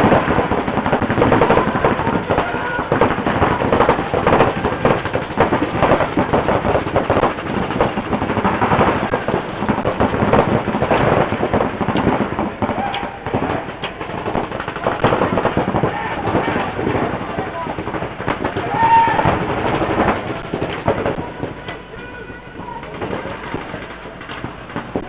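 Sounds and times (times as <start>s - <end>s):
paintball markers firing rapidly: 0.0s - 21.3s.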